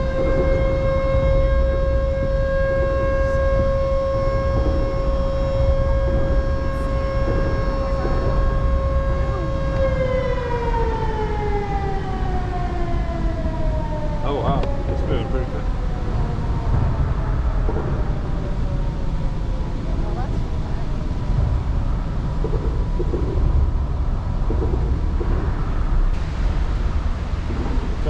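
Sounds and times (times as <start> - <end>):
low rumble: 0.0 - 28.0
siren-like whine: 0.0 - 28.0.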